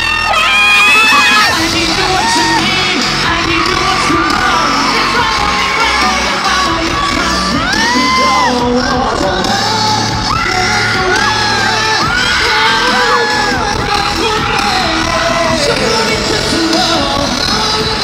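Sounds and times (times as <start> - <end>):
crowd screaming and cheering: 0.0 - 18.0
live pop concert music: 0.0 - 18.0.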